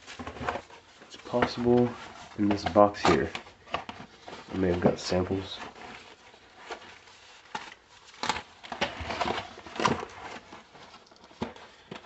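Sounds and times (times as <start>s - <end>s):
packaging rummaged in a box: 0.0s - 12.0s.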